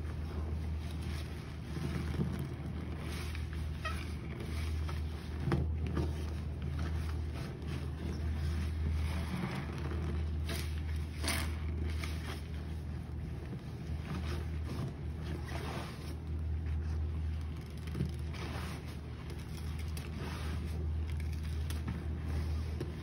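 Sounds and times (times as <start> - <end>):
sponge squelching in water: 0.0 - 23.0
steady low hum: 0.0 - 23.0.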